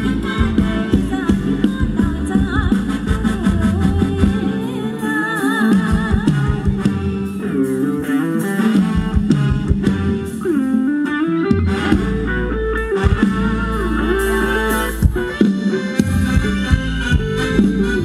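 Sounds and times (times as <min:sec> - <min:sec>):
live instrumental band music: 0:00.0 - 0:18.0.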